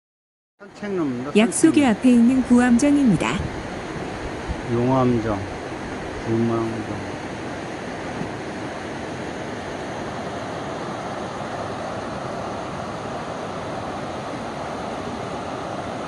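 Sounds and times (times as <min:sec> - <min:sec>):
stream rushing over rapids: 0:01.0 - 0:16.0.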